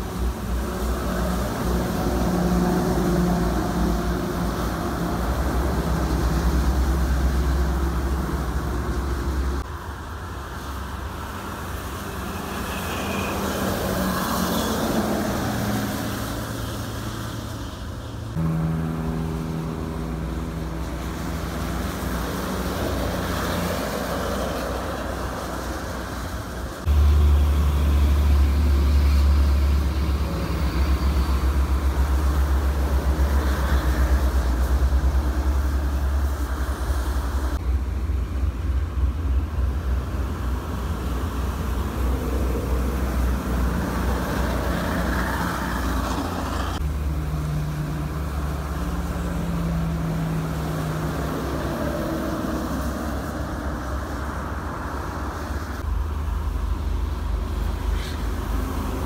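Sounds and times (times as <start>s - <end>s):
traffic on wet road: 0.0s - 59.0s.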